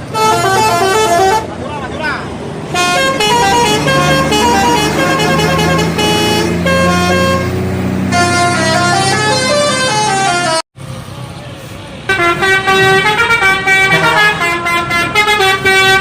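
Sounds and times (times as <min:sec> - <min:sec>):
musical bus horn tune: 0:00.0 - 0:01.6, 0:02.7 - 0:10.6, 0:12.1 - 0:16.0.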